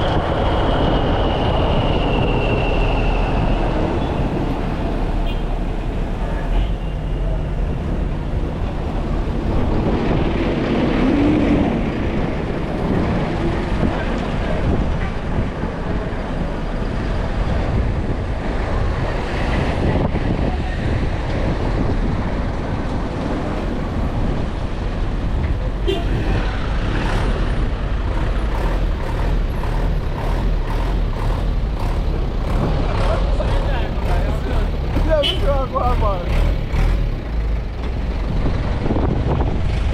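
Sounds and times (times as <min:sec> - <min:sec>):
road traffic: 0:00.0 - 0:39.9
truck engine rumbling: 0:00.0 - 0:39.9.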